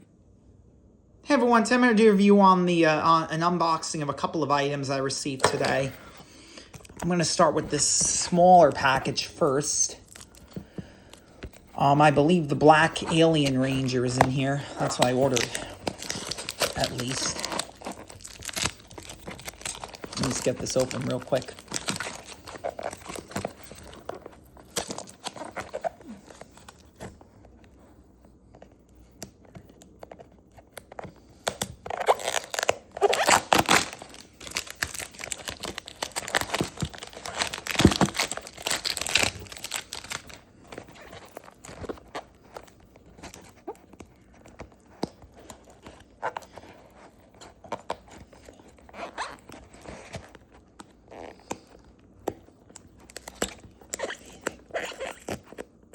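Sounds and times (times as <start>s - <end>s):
package tearing and crinkling: 6.8s - 27.2s, 29.6s - 55.8s.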